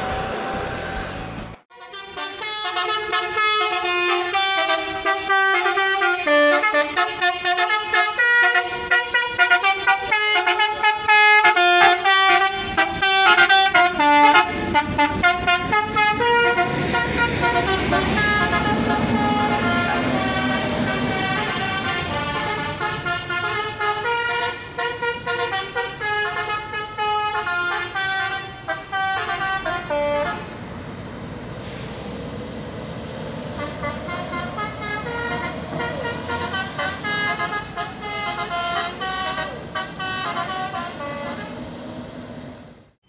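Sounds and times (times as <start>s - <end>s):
multi-tone bus air horn melody: 0.0s - 30.6s, 33.6s - 41.7s.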